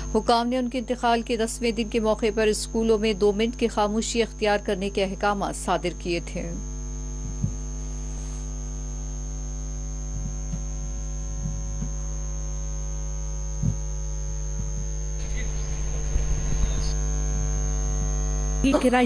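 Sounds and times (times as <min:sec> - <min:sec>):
electrical mains hum: 0:00.0 - 0:19.0
thin high whine: 0:00.0 - 0:19.0.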